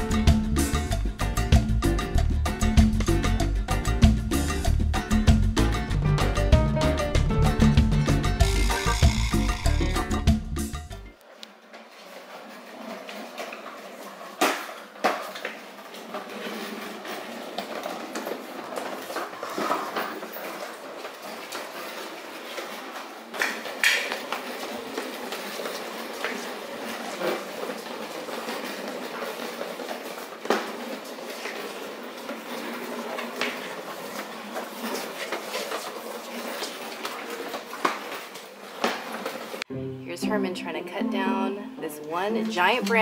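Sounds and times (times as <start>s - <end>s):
small wheels rolling on floor: 0.0s - 39.7s.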